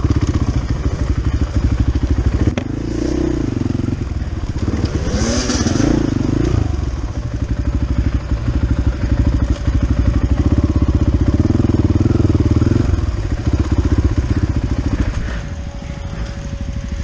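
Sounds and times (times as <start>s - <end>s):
engine running with fast pulse: 0.0s - 17.0s.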